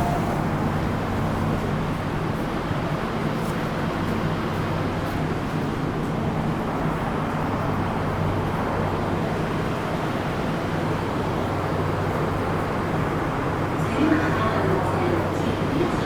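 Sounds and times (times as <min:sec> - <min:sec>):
train low hum and rush: 0:00.0 - 0:16.0.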